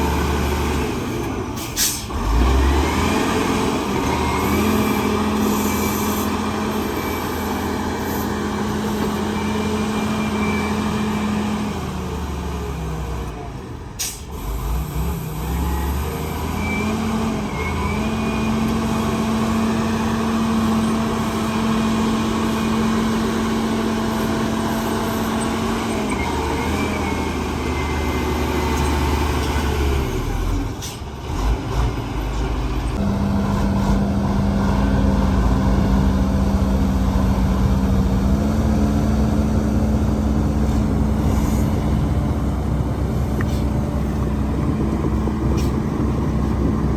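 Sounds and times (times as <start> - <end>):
diesel earthmoving machinery running: 0.0 - 46.9.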